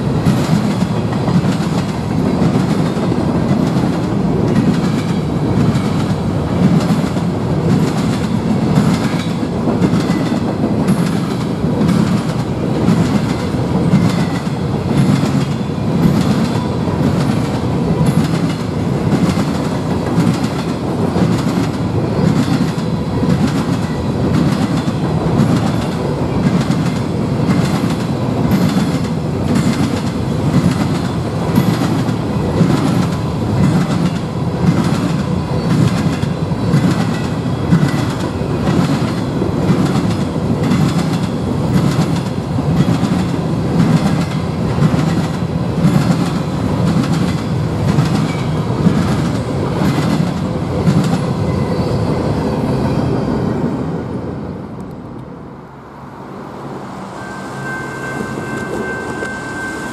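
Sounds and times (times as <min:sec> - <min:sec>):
wheels clickety-clack: 0:00.0 - 0:51.7
rumble of train wheels: 0:00.0 - 0:59.9.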